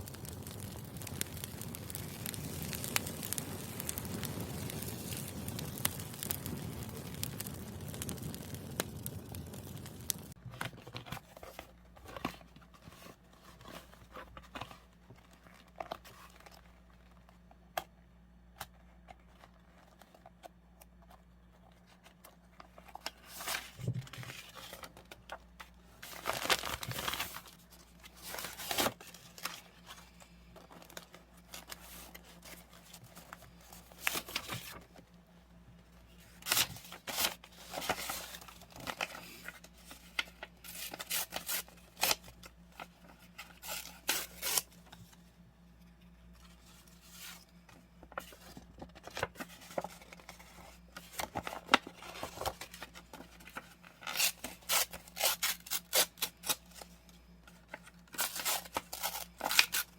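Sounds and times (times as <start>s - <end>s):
paper crinkling and tearing: 0.0s - 17.2s, 21.8s - 35.0s, 36.1s - 45.2s, 46.4s - 59.9s.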